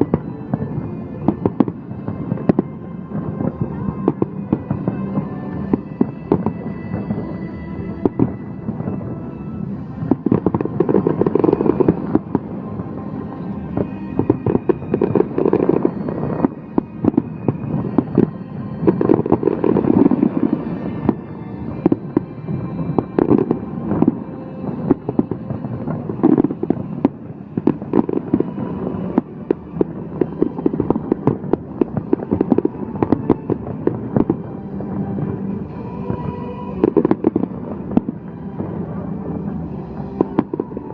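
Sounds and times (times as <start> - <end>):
fireworks bangs: 0.0 - 40.9
fireworks crackling and popping: 0.0 - 40.9.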